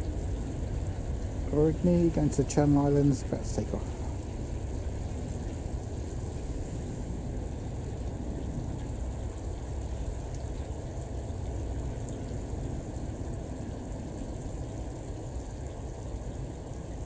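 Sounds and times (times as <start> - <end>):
turboprop engines rumbling: 0.0 - 15.0.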